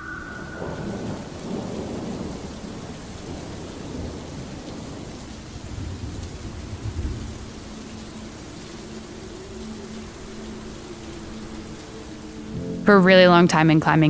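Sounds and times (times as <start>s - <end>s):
rolling thunder: 0.0s - 13.2s
steady rain: 0.0s - 14.0s.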